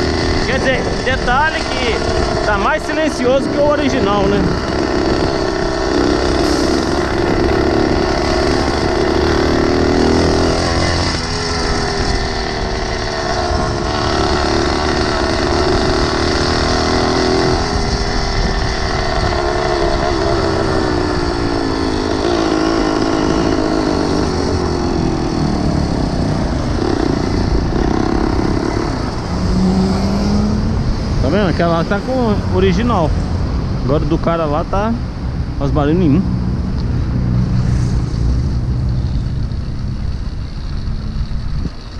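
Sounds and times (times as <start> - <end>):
small motorbike engine revving: 0.0 - 34.8.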